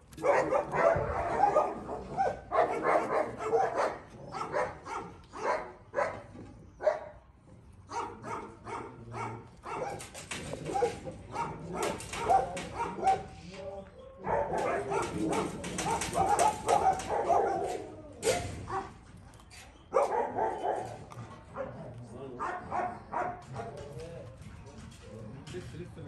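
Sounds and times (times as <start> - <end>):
dogs barking: 0.1 - 25.3.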